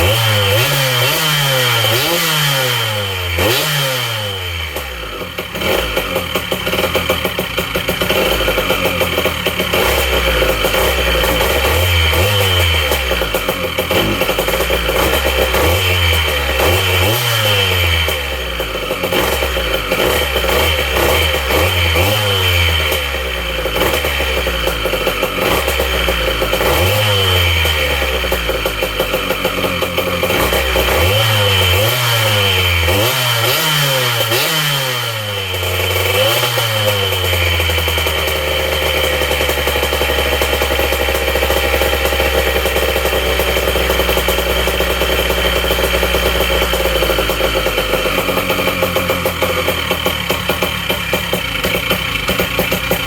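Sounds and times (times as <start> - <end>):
small engine revving and idling: 0.0 - 53.0.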